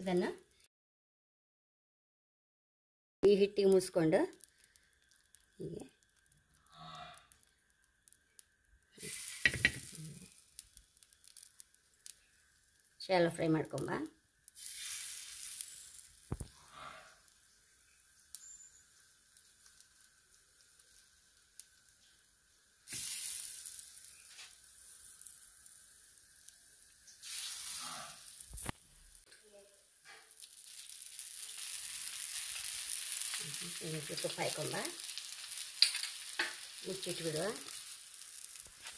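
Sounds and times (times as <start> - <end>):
bread sizzling on a griddle: 3.3 - 38.9.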